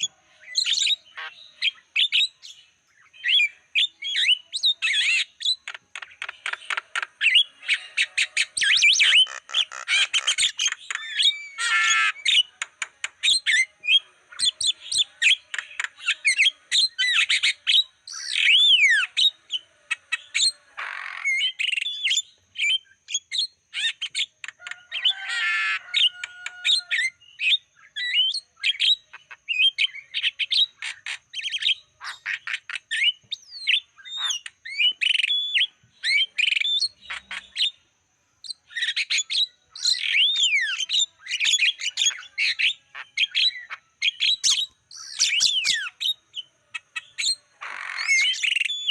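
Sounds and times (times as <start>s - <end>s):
myna singing whistles and squawks: 0.0s - 48.9s.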